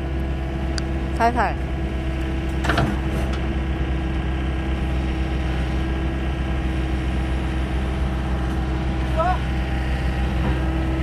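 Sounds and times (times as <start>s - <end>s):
heavy machine engine idling: 0.0s - 11.0s.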